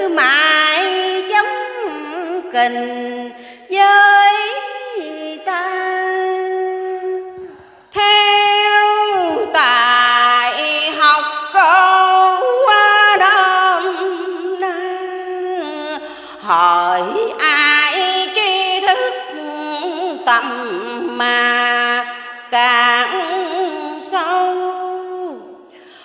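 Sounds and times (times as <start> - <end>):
woman chanting verse: 0.0 - 25.6.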